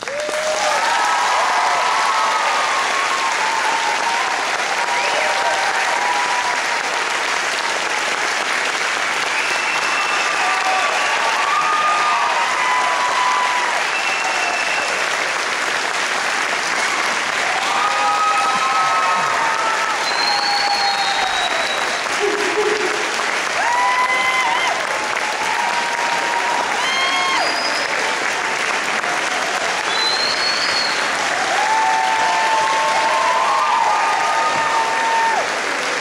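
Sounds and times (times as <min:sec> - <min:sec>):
audience applauding: 0:00.0 - 0:36.0
people cheering: 0:00.0 - 0:36.0.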